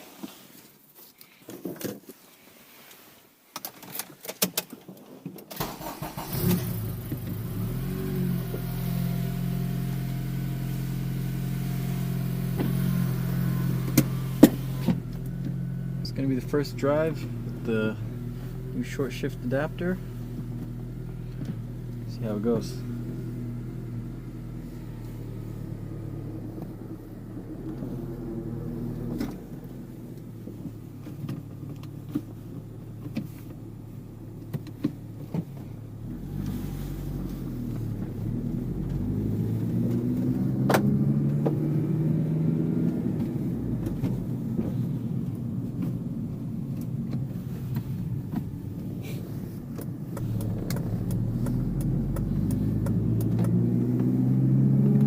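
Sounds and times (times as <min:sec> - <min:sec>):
car engine accelerating: 0:05.6 - 0:55.0.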